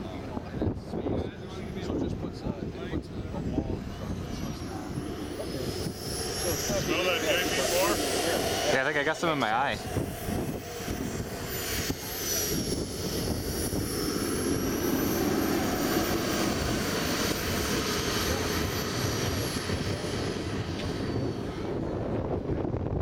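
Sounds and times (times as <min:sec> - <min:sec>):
small jet turbine whining: 0:00.0 - 0:23.0.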